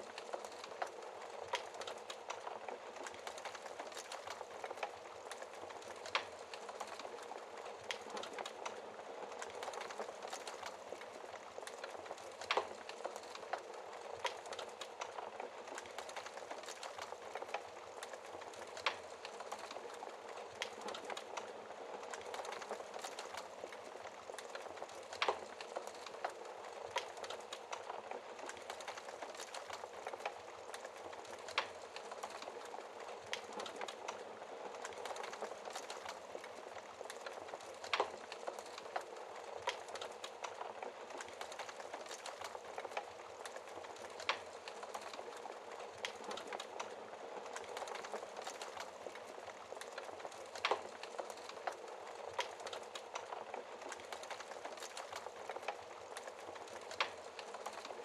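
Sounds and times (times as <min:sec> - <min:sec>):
wood fire crackling in fireplace: 0:00.0 - 0:58.0.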